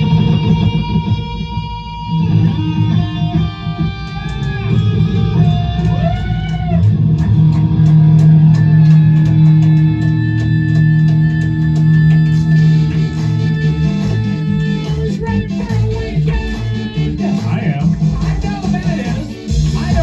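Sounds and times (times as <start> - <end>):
rock music with electric guitar: 0.0 - 20.0.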